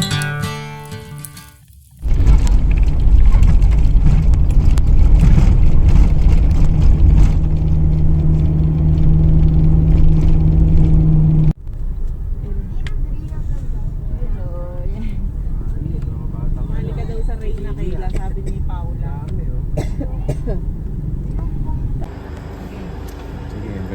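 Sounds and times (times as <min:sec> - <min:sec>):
vehicle engine rumbling: 0:02.0 - 0:23.9.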